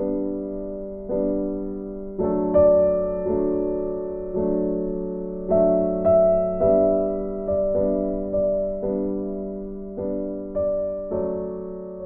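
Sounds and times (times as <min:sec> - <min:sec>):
gentle piano chords: 0:00.0 - 0:12.0.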